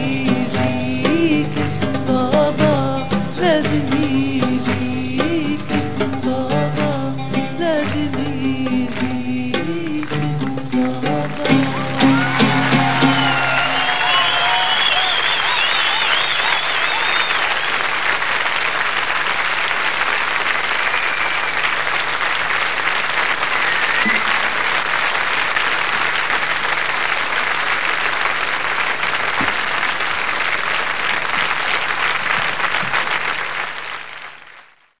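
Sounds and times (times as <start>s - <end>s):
audience applauding: 6.8s - 35.0s.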